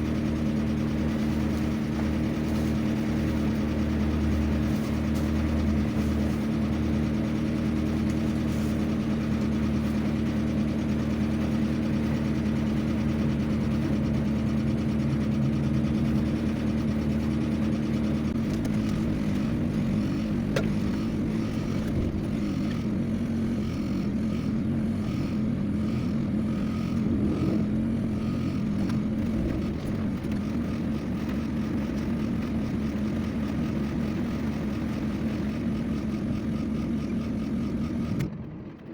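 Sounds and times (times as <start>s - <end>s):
road and wind noise: 0.0s - 38.9s
vehicle engine running: 0.0s - 38.9s.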